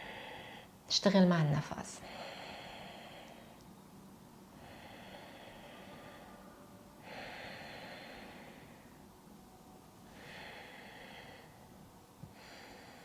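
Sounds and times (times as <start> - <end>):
woman breathing slowly: 0.0 - 0.8, 2.0 - 13.0.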